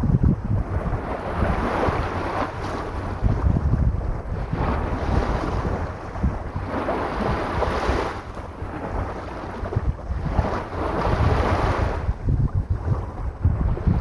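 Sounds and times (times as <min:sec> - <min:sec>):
sea waves washing onto shore: 0:00.0 - 0:14.0
wind buffeting microphone: 0:00.0 - 0:14.0.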